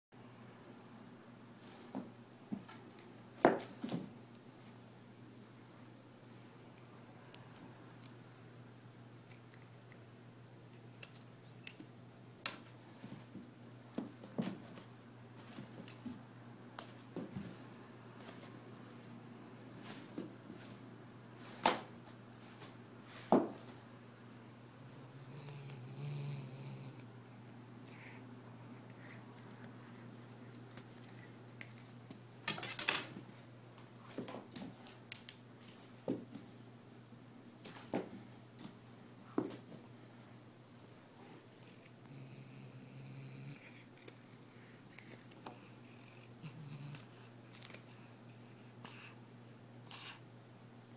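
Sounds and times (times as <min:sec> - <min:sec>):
steady low hum: 0:00.2 - 0:50.9.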